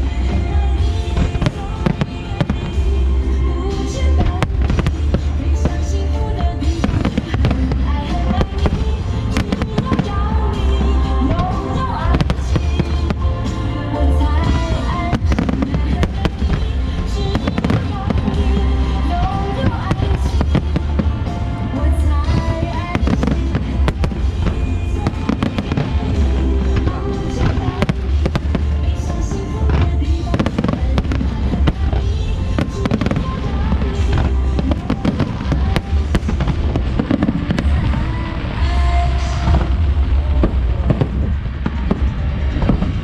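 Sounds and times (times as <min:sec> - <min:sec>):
fireworks bangs and crackling: 0:00.0 - 0:43.0
loud music: 0:00.0 - 0:43.0.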